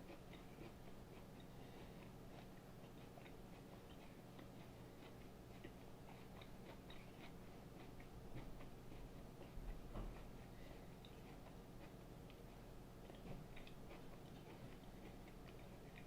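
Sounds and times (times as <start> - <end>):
cucumber chewing crunches: 0.0 - 16.0
steady low hum: 0.0 - 16.0.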